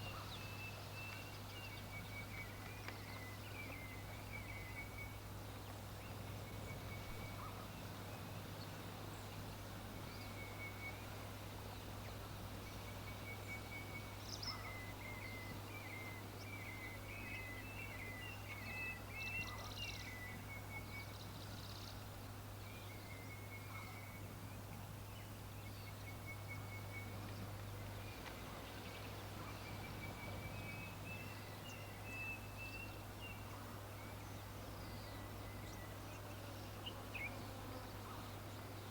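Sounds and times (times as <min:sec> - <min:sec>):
background hiss: 0:00.0 - 0:38.9
faint bird chirping: 0:00.0 - 0:38.9.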